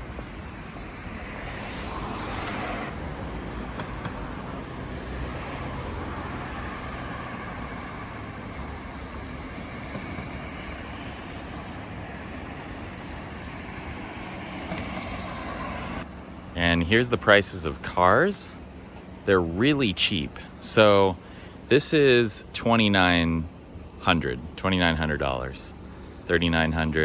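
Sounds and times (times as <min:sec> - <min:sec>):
cars passing on road: 0:00.0 - 0:27.0.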